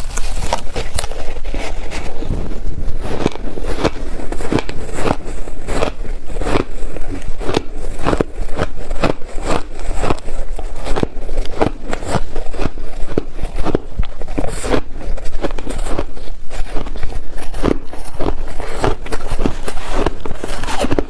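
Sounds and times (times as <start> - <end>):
ice crunching between teeth: 0.0 - 21.0.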